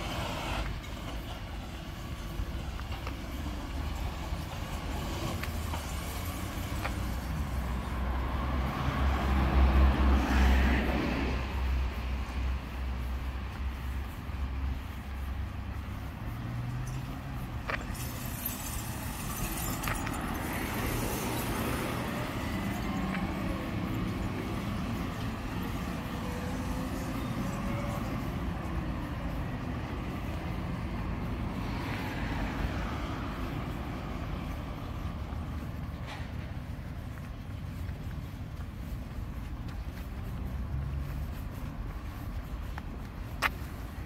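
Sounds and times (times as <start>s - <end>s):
cars passing: 0.0s - 44.0s.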